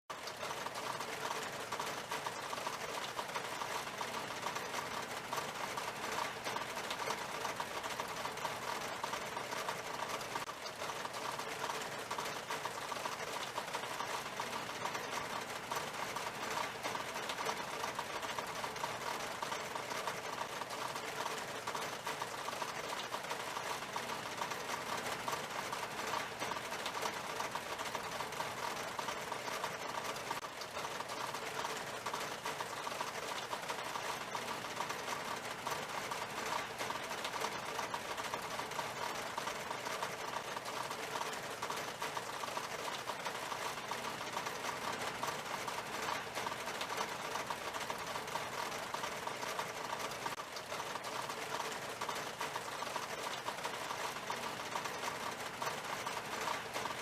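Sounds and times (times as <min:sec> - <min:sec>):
rain on a window pane: 0:00.1 - 0:57.0.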